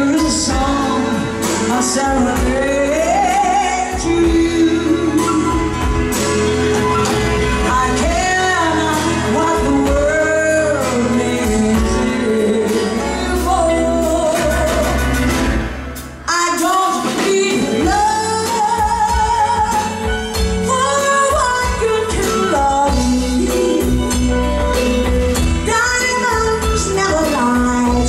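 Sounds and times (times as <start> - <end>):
woman singing with live band: 0.0 - 28.0.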